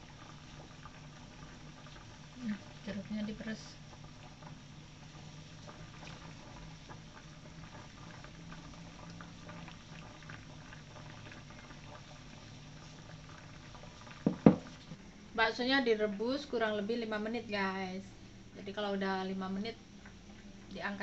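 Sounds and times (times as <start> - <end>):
water bubbling in saucepan: 0.0 - 21.0.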